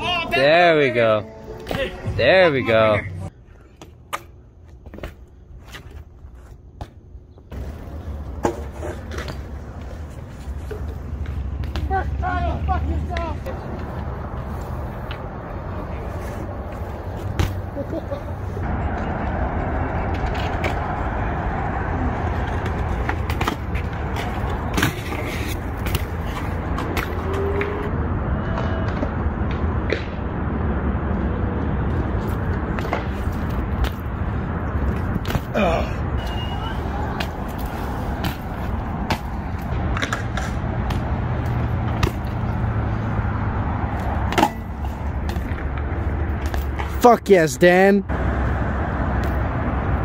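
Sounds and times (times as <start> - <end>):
bike tyres rolling on concrete: 1.6 - 27.9, 28.7 - 47.0.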